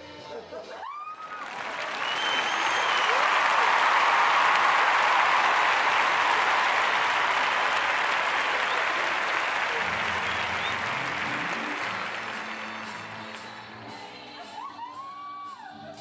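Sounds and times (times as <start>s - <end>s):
audience applauding: 1.0s - 14.4s.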